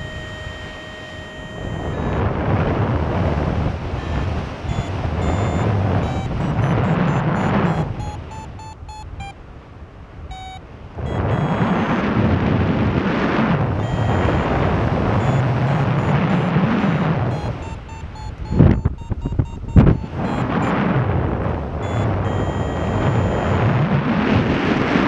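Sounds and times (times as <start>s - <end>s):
wind buffeting microphone: 0.0s - 9.3s, 10.7s - 25.0s
variometer short electronic beeps: 0.0s - 9.4s, 10.3s - 12.1s, 13.8s - 24.0s.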